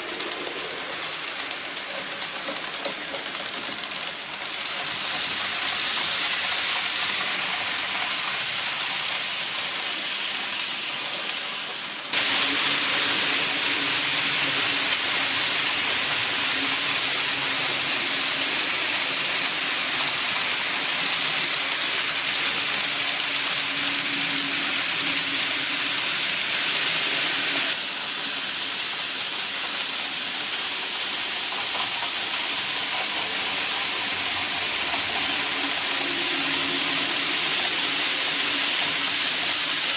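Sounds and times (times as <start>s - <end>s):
model train wheels rolling on track: 0.0s - 39.9s.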